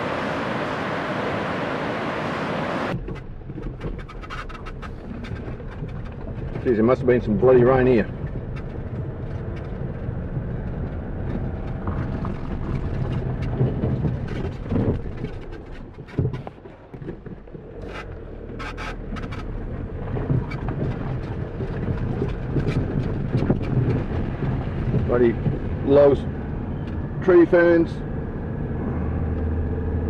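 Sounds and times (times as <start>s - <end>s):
vehicle engine and tyre noise: 0.0s - 30.0s
sharp knocks or rattles: 3.0s - 27.2s.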